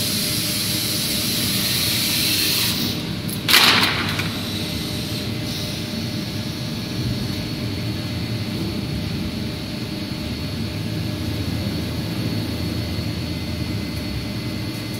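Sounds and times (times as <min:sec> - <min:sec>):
machinery drone: 0:00.0 - 0:14.9.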